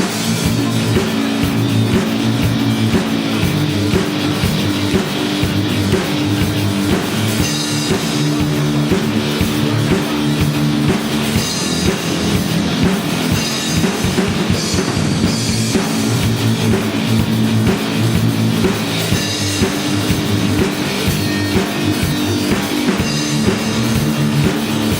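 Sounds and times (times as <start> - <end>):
drum kit beating: 0.0 - 24.9
live rock band playing: 0.0 - 24.9.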